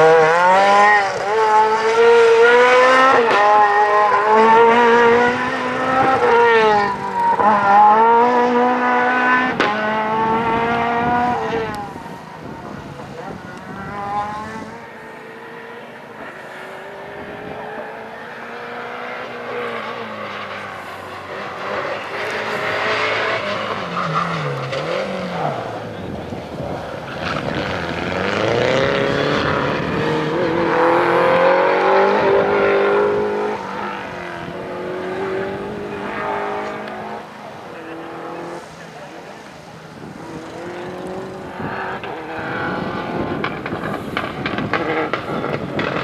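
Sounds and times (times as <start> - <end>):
rally car engines racing: 0.0 - 46.0.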